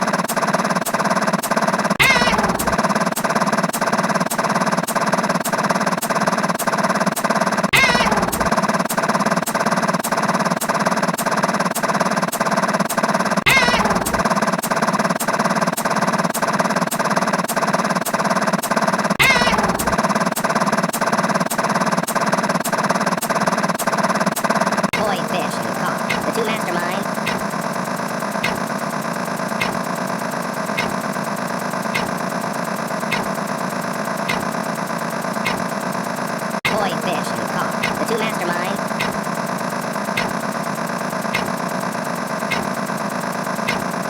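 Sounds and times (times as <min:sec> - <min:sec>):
fast electronic clatter: 0:00.0 - 0:44.0.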